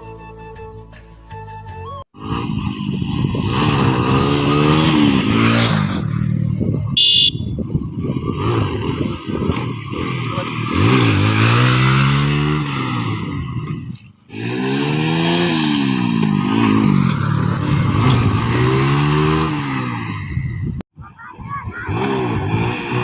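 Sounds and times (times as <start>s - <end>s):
road noise: 0.8s - 23.0s
motorcycle engine accelerating: 2.2s - 20.8s, 21.8s - 23.0s.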